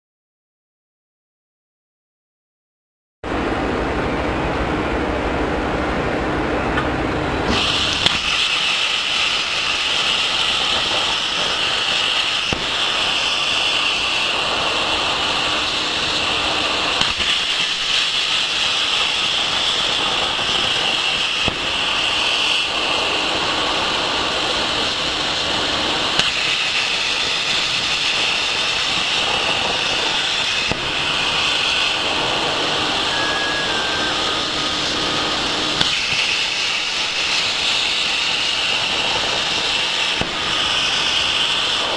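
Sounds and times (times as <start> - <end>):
plasma torch arc hissing: 7.4 - 41.9.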